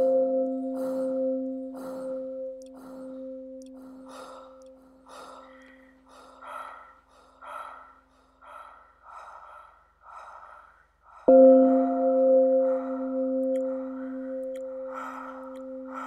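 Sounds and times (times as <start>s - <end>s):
person breathing heavily: 0.6s - 16.0s.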